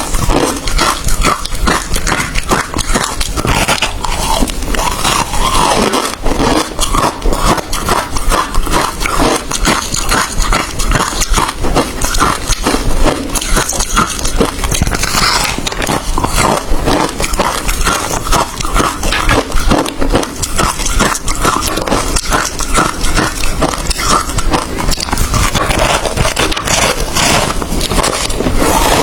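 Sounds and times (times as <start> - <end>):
person crunching ice: 0.0 - 29.0.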